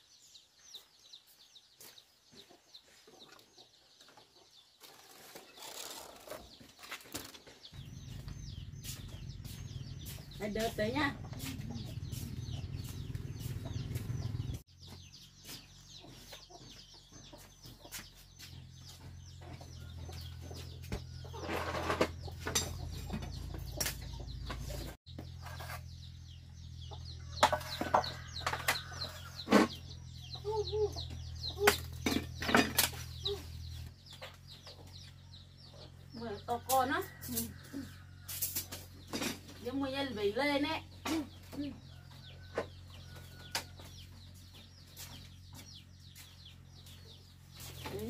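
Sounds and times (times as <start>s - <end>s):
chickens clucking: 0.8s - 5.6s, 6.2s - 40.0s, 40.6s - 48.0s.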